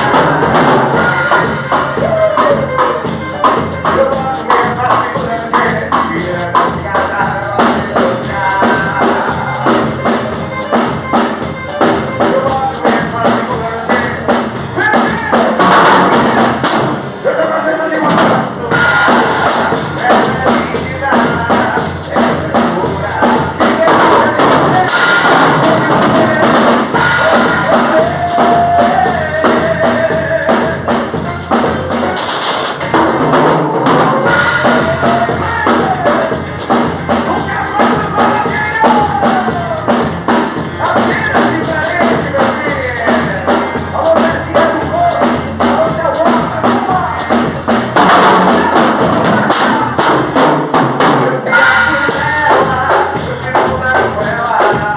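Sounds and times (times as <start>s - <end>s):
drum kit beat: 0.0s - 54.9s.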